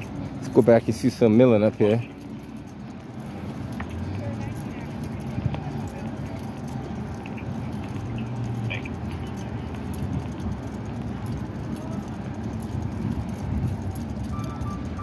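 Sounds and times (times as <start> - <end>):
low engine rumble: 0.0 - 15.0
faint clicks: 1.8 - 15.0.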